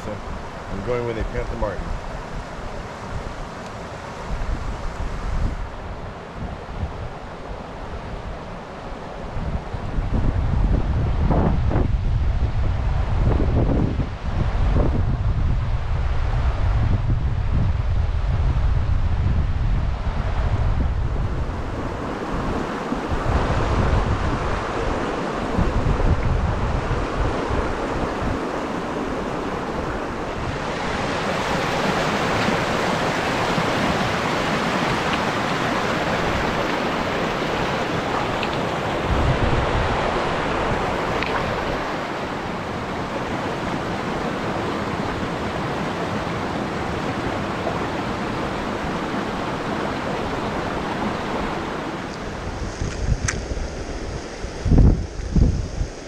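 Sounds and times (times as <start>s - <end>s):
flowing river water: 0.0s - 11.5s, 20.0s - 56.0s
wind buffeting microphone: 0.0s - 56.0s.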